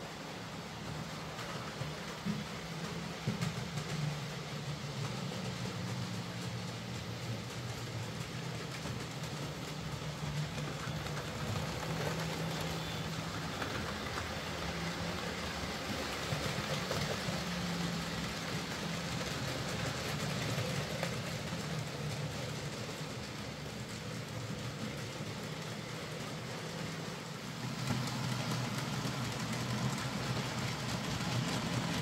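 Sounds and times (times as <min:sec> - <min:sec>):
wheels rolling on rails: 0:00.0 - 0:32.0.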